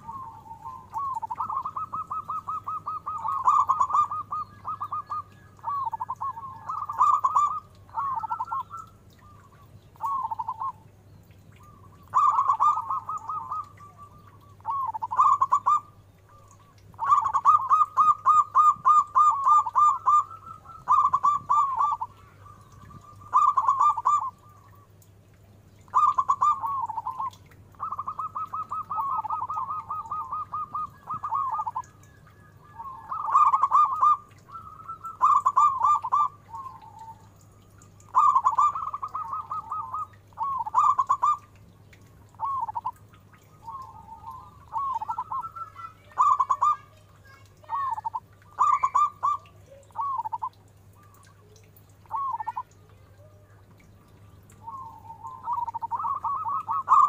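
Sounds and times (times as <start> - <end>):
dove cooing: 0.0 - 10.9, 11.6 - 25.0, 25.9 - 41.6, 42.2 - 53.9, 54.5 - 57.0.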